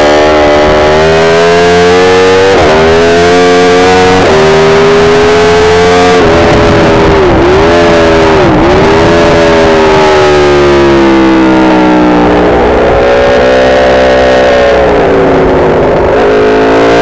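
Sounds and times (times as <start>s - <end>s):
motorcycle engine accelerating hard: 0.0s - 17.0s.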